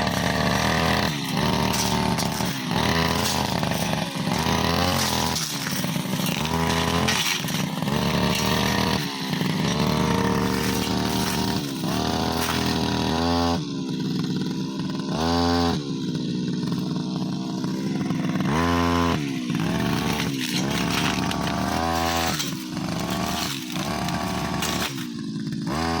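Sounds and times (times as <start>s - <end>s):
brushcutter engine revving: 0.0s - 26.0s.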